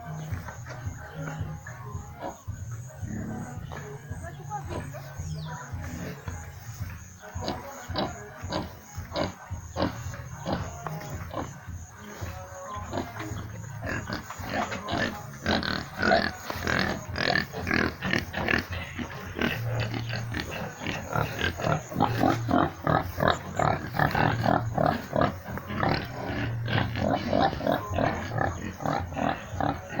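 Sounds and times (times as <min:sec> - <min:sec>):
pigs grunting and squealing: 0:00.0 - 0:30.0.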